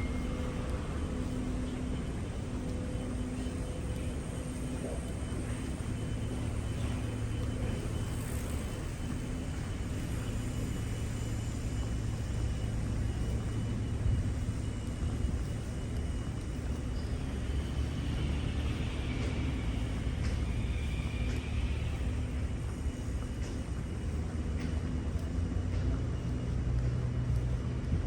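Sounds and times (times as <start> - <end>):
faint even hum: 0.0 - 28.0
low engine rumble: 0.0 - 28.0.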